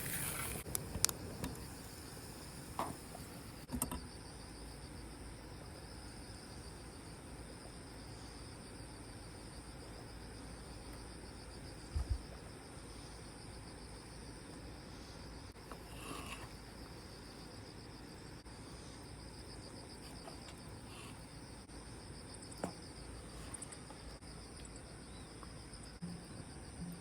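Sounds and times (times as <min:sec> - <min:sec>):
crickets chirping: 0:00.0 - 0:27.0
higher insect song: 0:00.0 - 0:27.0.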